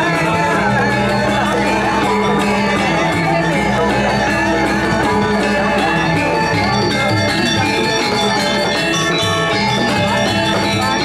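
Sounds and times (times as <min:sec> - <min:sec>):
gamelan metallophones ringing: 0:00.0 - 0:11.0.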